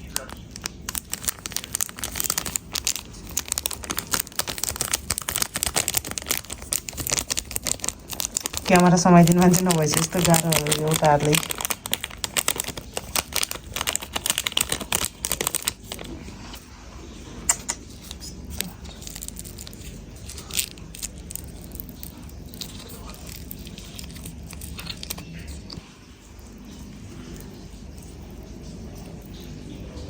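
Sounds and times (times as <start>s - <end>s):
plastic packet tearing: 0.0s - 16.2s, 17.5s - 25.7s
plastic packets crinkling: 0.0s - 16.6s, 17.5s - 25.8s.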